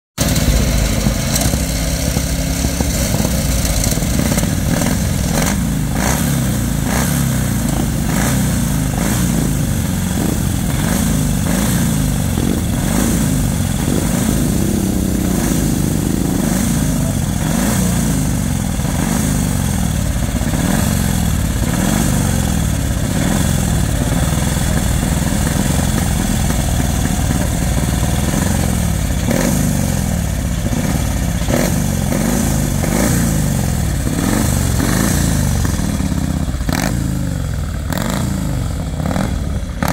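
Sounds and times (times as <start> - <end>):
racing car engine idling: 0.2 - 39.9.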